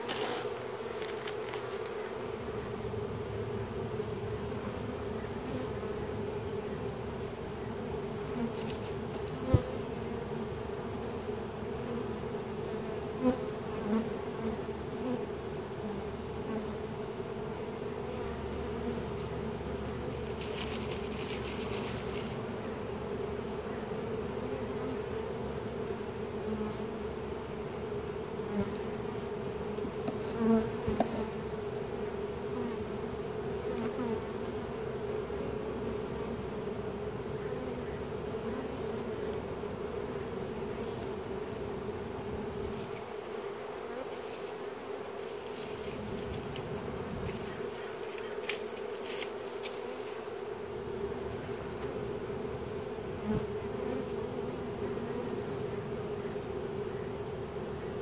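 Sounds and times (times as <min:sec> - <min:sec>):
bee swarm humming: 0:00.0 - 0:58.0.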